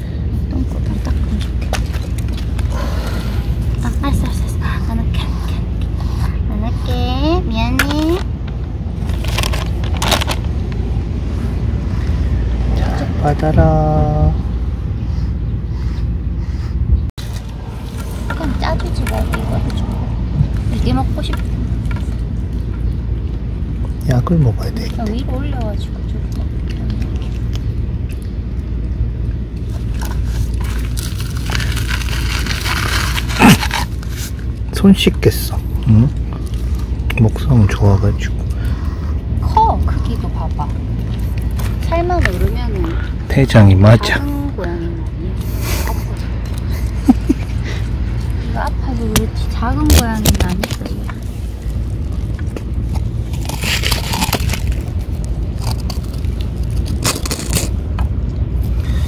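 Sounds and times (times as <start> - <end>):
low traffic rumble: 0.0 - 59.0.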